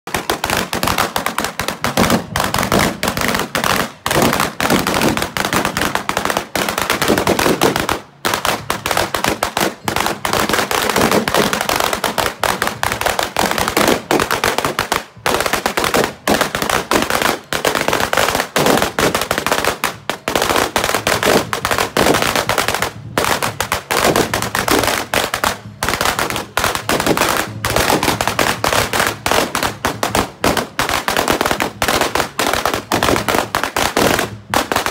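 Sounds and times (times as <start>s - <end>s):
firecrackers going off: 0.1s - 34.9s.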